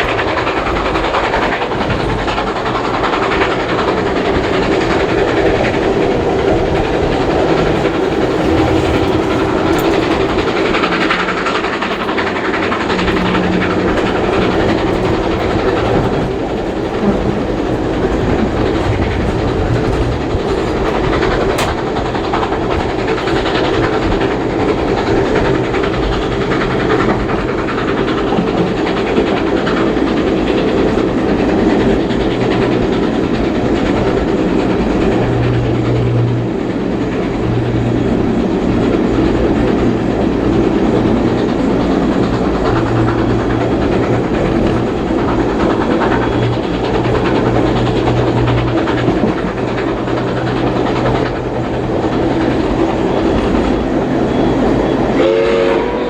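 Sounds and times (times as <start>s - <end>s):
wheels clattering over rails: 0.0s - 55.7s
train rumble: 0.0s - 56.0s.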